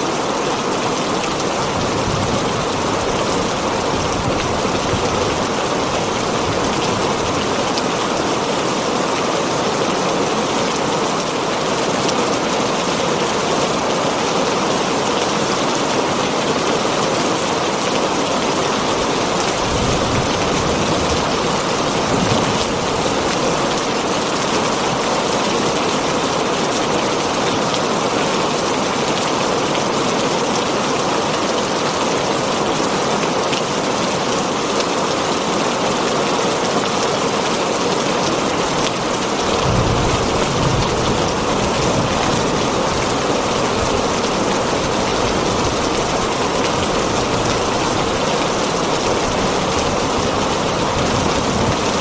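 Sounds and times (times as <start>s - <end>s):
heavy rain on a tin roof: 0.0s - 52.0s.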